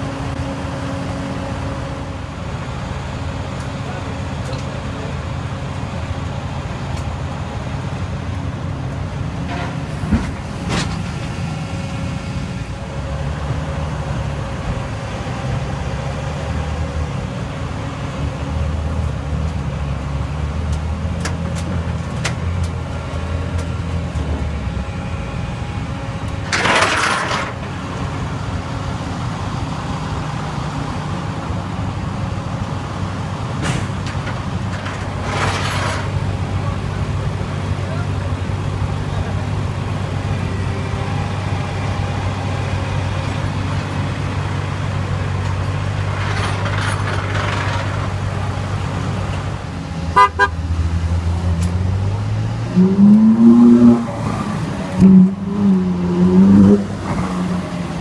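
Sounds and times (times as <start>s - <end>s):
vehicle engines idling: 0.0s - 58.0s.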